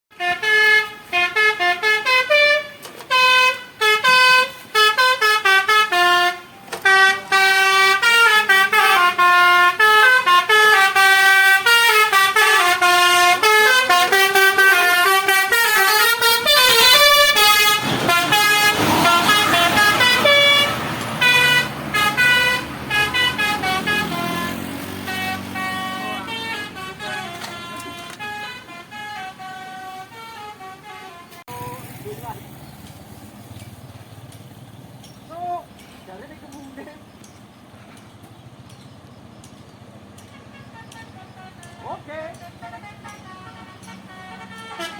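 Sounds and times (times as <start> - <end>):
multi-tone bus horn melodies: 0.1 - 32.0, 40.1 - 44.9.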